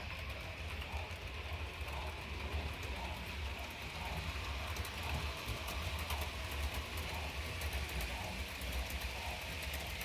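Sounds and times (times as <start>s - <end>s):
model train rumbling: 0.0s - 10.0s
wheels clicking over rail joints: 0.0s - 10.0s.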